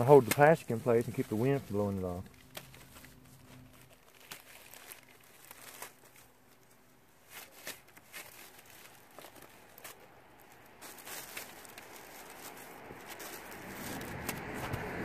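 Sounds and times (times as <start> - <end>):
plastic sheeting crinkling: 0.0 - 14.9.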